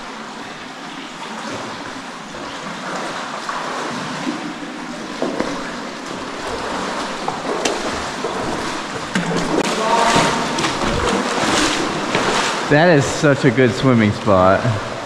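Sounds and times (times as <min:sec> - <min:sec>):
light water splashes: 0:00.0 - 0:15.0
water rushing and sloshing: 0:00.0 - 0:15.0.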